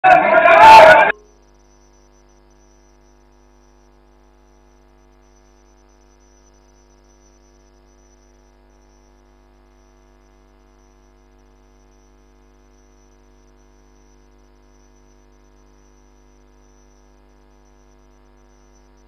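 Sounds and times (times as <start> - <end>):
faint electrical hum and buzz: 1.2 - 19.0.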